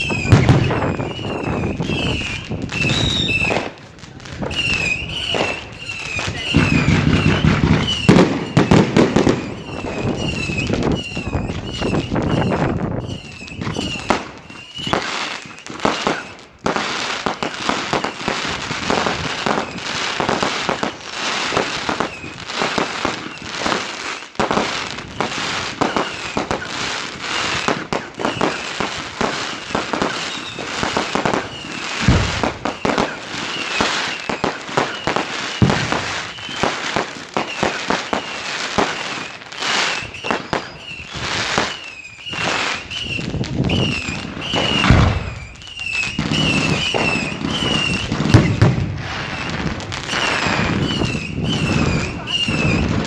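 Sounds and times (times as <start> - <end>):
deep fireworks booms: 0.0 - 53.0
fireworks bangs and crackling: 0.0 - 53.0
fireworks whistling: 0.0 - 53.0.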